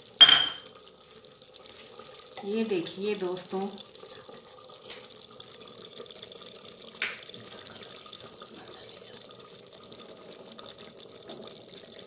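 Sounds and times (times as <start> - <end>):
curry bubbling and popping: 0.0 - 12.0.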